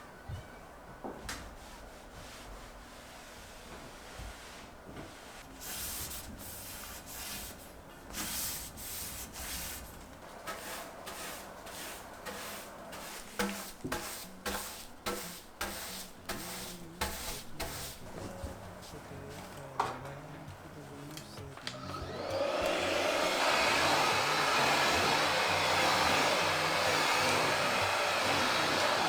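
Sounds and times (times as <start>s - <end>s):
rubbing strokes: 1.6s - 19.5s, 22.8s - 29.0s.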